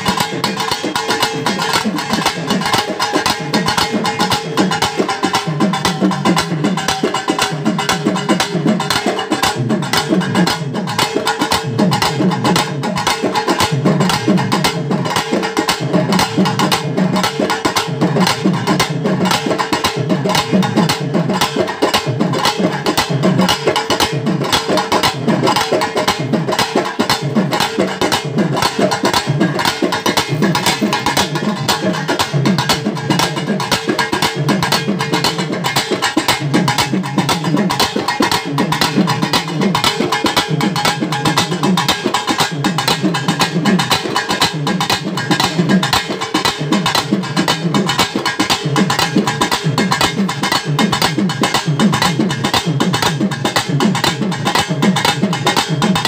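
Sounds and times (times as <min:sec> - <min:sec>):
drums struck with sticks: 0:00.0 - 0:56.0.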